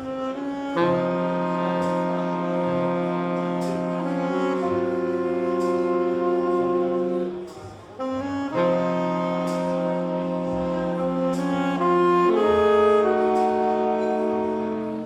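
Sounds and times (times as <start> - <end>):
jazz horn section sustained chords: 0.0 - 15.0.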